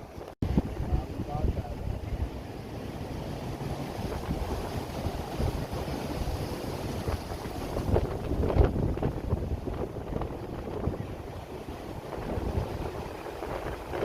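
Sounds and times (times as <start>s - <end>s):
storm surf washing: 0.0s - 14.0s
wind buffeting microphone: 0.0s - 14.0s.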